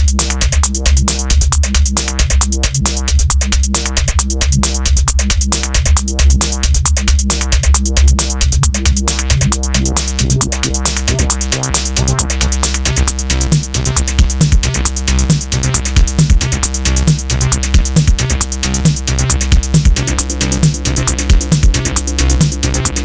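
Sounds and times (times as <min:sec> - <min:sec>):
fast drum machine beat: 0:00.0 - 0:23.0
synth bass line: 0:00.0 - 0:23.0.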